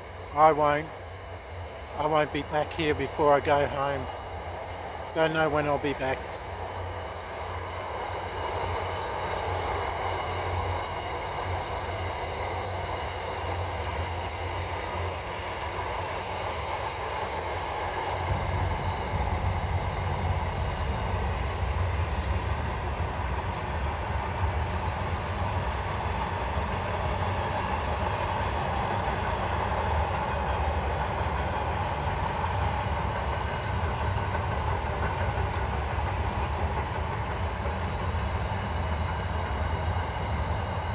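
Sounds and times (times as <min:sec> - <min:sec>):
freight train rumbling over bridge: 0:00.0 - 0:40.9.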